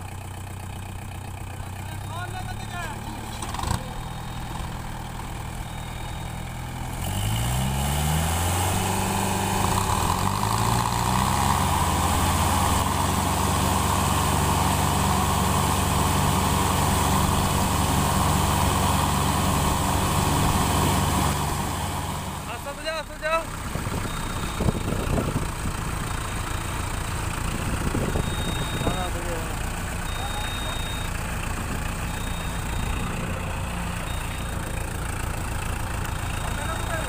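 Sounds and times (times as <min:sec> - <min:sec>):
tractor diesel engine revving: 0:00.0 - 0:37.0.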